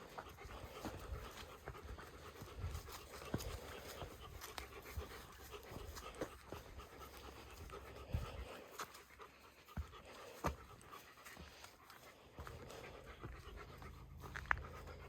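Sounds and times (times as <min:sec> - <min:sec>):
footsteps on trail: 0:00.0 - 0:15.0
person breathing hard: 0:00.0 - 0:15.0.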